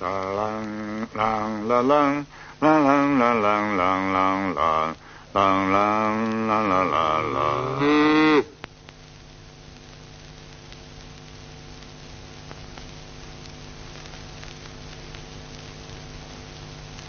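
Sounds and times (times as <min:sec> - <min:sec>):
electrical hum and hiss: 0:00.0 - 0:17.0
faint crackles: 0:00.0 - 0:17.0.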